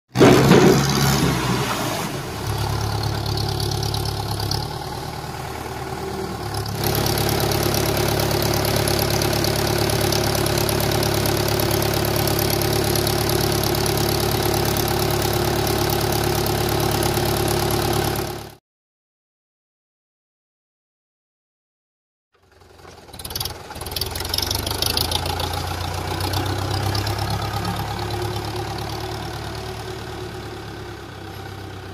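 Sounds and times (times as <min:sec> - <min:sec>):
tractor diesel engine running: 0:00.2 - 0:18.6, 0:22.4 - 0:31.9.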